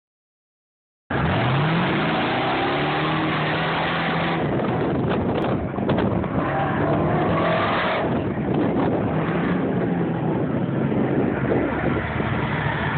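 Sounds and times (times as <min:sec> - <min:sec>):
truck engine accelerating hard: 0:01.1 - 0:12.9.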